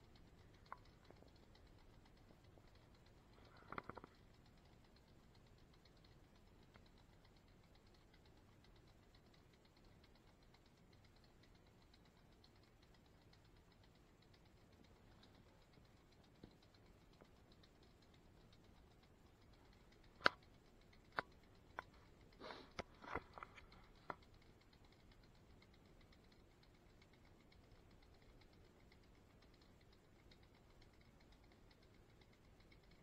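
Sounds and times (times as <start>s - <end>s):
faint hiss: 0.0s - 33.0s
sharp clicks and knocks: 0.0s - 33.0s.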